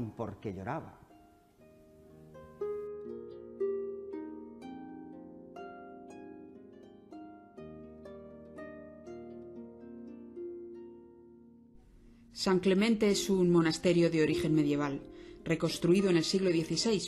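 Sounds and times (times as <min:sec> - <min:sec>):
plucked string melody: 0:01.0 - 0:17.0.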